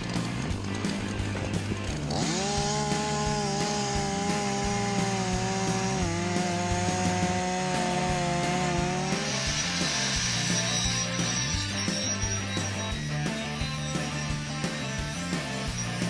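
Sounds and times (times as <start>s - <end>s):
background music: 0.0s - 16.0s
chainsaw revving: 0.0s - 16.0s.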